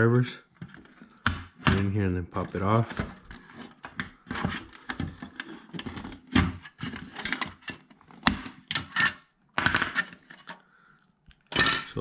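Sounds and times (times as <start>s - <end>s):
plastic clicks and scraping: 0.5s - 10.6s.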